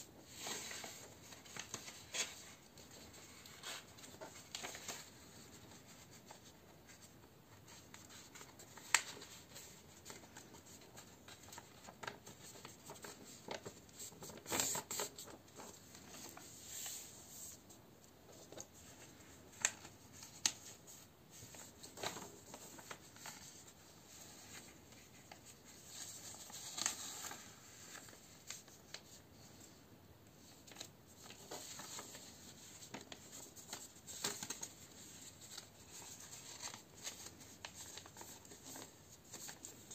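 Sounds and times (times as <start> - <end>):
paper rustling: 0.2 - 17.7, 18.3 - 29.8, 30.4 - 39.9
paper crinkles: 0.3 - 17.7, 18.3 - 29.8, 30.4 - 39.9.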